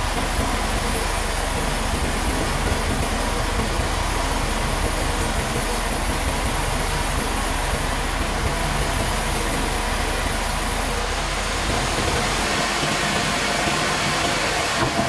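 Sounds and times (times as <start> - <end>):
sawmill machinery running: 0.0 - 15.0.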